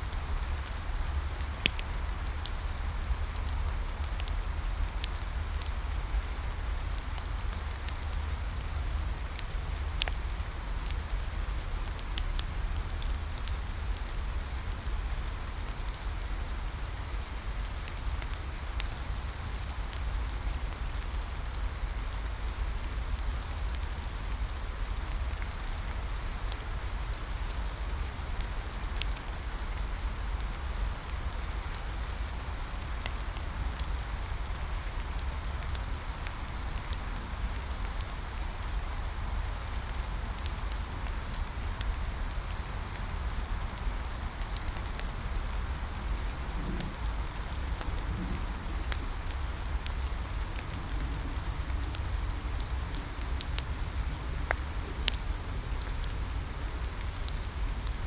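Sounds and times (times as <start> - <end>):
crackling wood bonfire: 0.0 - 58.0
steady rain falling: 0.0 - 58.0.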